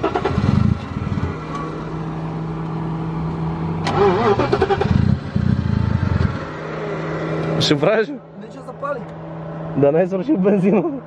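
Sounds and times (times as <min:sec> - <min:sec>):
car engine idling: 0:00.0 - 0:11.0
loud engine rumble: 0:00.0 - 0:11.0.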